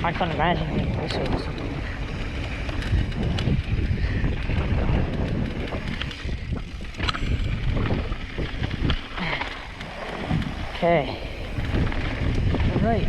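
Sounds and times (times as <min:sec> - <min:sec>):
bike knocking on bumps: 0:00.0 - 0:10.8
mountain bike rattling on dirt trail: 0:00.0 - 0:13.0
wind buffeting microphone: 0:00.0 - 0:13.0.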